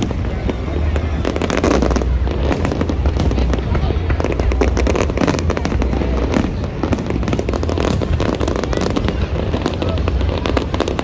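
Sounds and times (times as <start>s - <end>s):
fireworks crackling and banging: 0.0s - 11.0s
low rumble of booms: 0.0s - 11.0s.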